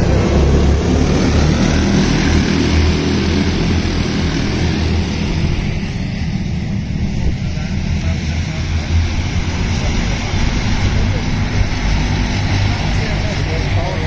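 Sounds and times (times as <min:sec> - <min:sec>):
racing karts buzzing past: 0:00.0 - 0:14.0.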